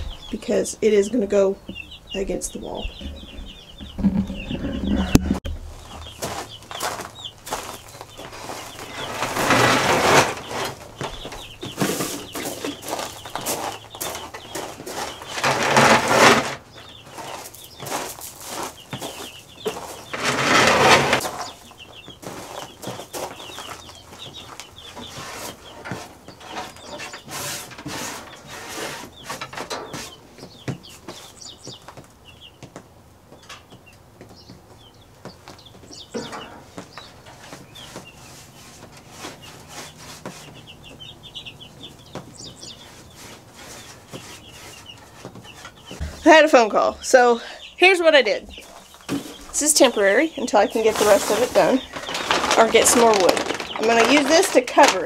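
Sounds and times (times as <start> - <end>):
chickens cheeping and clucking: 0.0 - 55.0.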